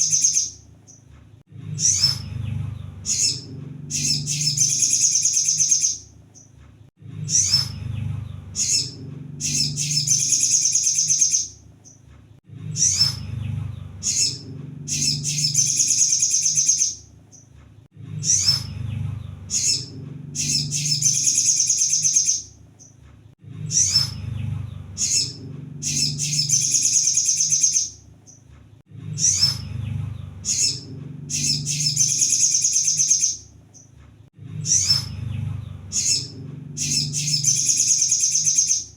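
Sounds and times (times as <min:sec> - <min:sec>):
sunbird singing chirps and trills: 0:00.0 - 0:01.0, 0:01.7 - 0:06.5, 0:07.2 - 0:12.0, 0:12.7 - 0:17.5, 0:18.2 - 0:23.0, 0:23.7 - 0:28.4, 0:29.2 - 0:33.9, 0:34.6 - 0:38.9
low background rumble: 0:00.6 - 0:21.6, 0:22.2 - 0:32.6, 0:33.3 - 0:38.2.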